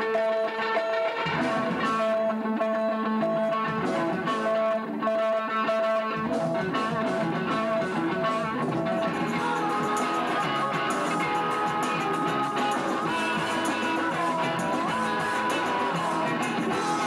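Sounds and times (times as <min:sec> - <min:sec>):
electric guitar: 0:00.0 - 0:17.0
live band playing: 0:00.0 - 0:17.0.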